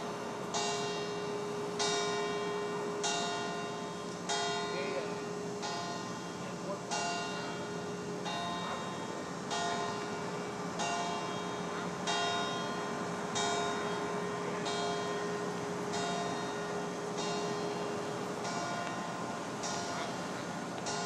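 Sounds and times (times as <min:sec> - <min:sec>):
church bell tolling: 0:00.0 - 0:21.0
steady hum: 0:00.0 - 0:21.0.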